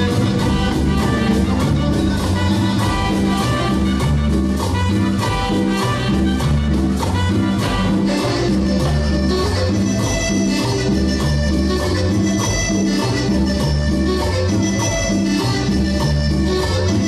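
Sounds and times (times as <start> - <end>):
live latin dance band: 0.0 - 17.0.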